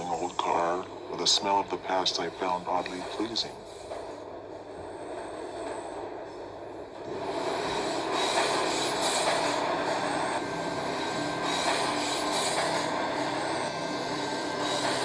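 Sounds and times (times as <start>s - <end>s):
high whine: 0.0s - 15.0s
subway train wheels rumbling: 0.0s - 15.0s.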